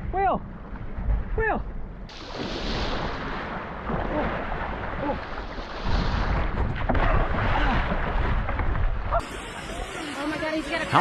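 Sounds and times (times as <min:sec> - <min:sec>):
wind buffeting microphone: 0:00.0 - 0:10.0
rushing water: 0:02.1 - 0:11.0.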